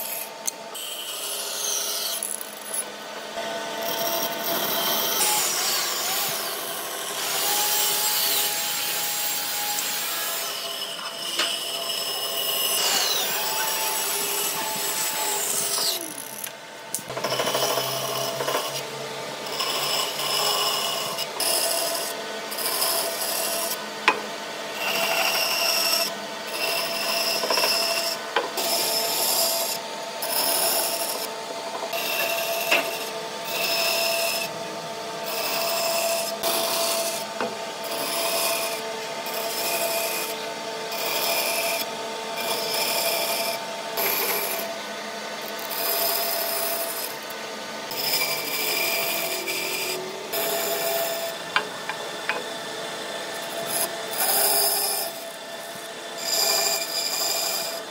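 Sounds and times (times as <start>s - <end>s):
bandsaw cutting wood: 0.0s - 57.9s
bandsaw running hum: 0.0s - 57.9s.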